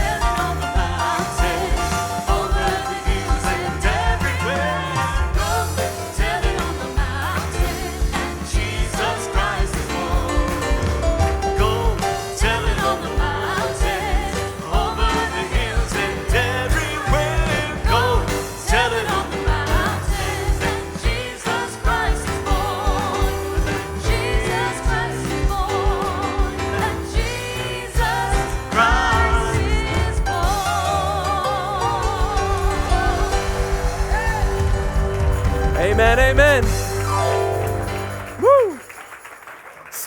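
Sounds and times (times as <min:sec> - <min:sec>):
singers holding wordless vocals: 0:00.0 - 0:38.8
drum kit beat: 0:00.0 - 0:38.9
piano: 0:00.0 - 0:40.0.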